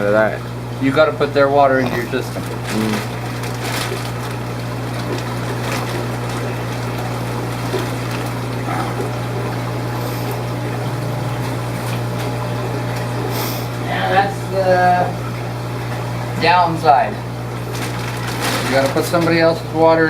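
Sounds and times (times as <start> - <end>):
running trickling water: 0.0 - 20.0
water pump humming: 0.0 - 20.0.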